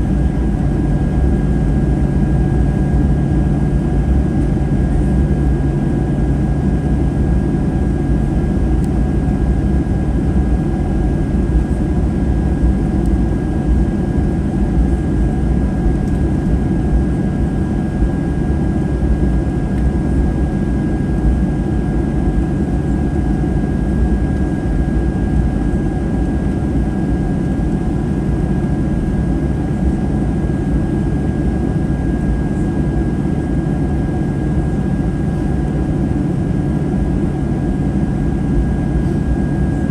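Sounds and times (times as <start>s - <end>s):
jet engine hum in cabin: 0.0s - 39.9s.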